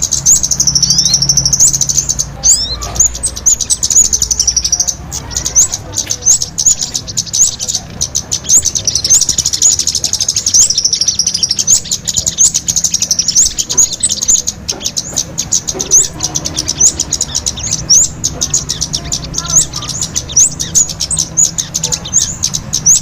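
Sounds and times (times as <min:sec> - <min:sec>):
small birds twittering: 0:00.0 - 0:23.0.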